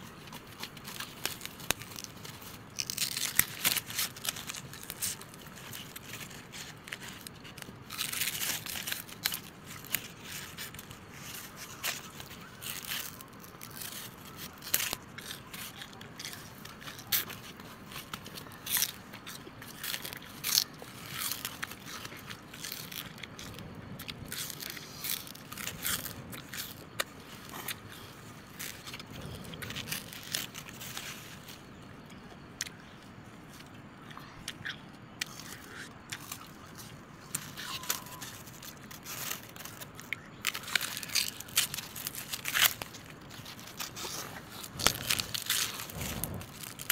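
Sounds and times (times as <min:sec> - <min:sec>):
crunchy snack being chewed: 0:00.0 - 0:46.9.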